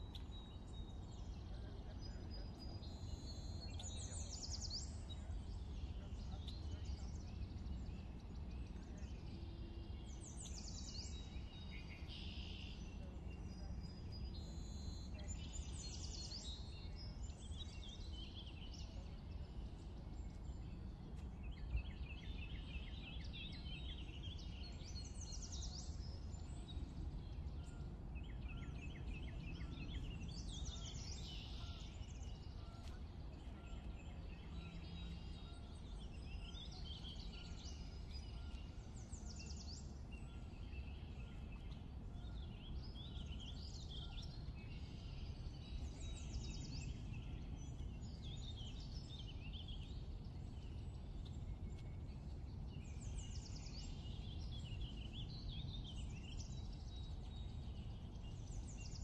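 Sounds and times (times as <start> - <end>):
low outdoor rumble: 0.0 - 58.9
birds singing and trilling: 0.0 - 59.0.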